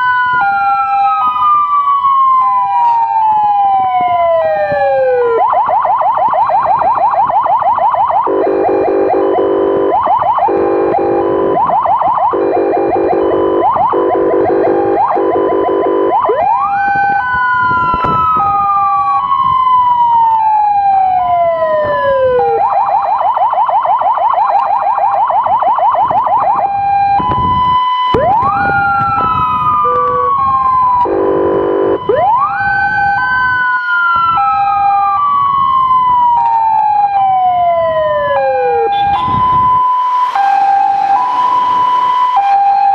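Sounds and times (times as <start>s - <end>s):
fast yelping siren: 0.0s - 42.9s
two-tone hi-lo siren: 0.0s - 42.9s
wailing siren: 0.0s - 42.9s.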